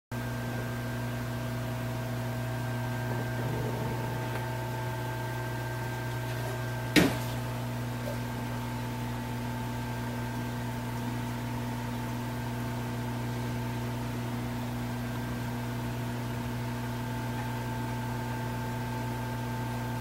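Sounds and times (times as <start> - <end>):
electrical hum: 0.2 - 20.0.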